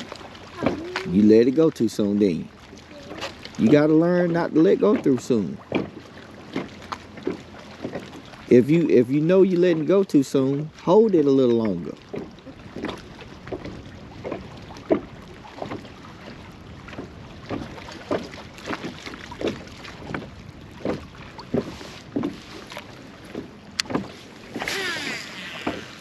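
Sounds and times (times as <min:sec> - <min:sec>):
water slapping against boat hull: 0:00.0 - 0:26.0.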